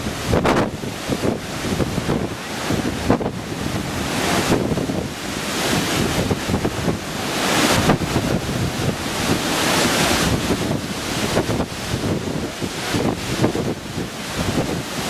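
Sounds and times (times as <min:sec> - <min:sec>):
surf crashing against seawall: 0:00.0 - 0:15.0
wind buffeting microphone: 0:00.0 - 0:15.0.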